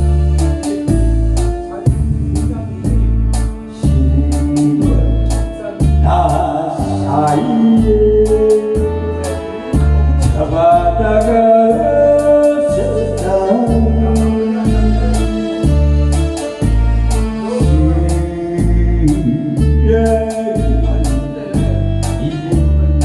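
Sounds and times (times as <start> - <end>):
trot-style backing music: 0.0 - 23.0.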